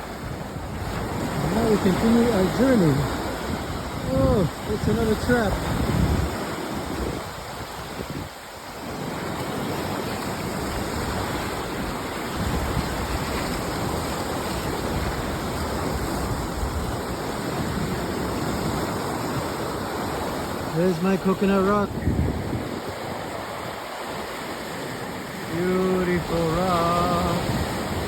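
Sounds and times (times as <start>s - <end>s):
wind buffeting microphone: 0.0s - 20.9s, 21.7s - 28.0s
sea surf washing onto beach: 0.0s - 28.0s.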